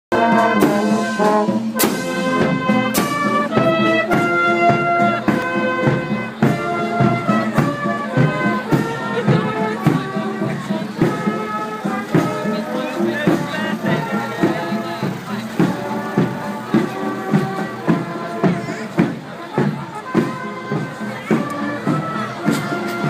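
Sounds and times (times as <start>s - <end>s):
marching brass band playing: 0.1s - 23.0s.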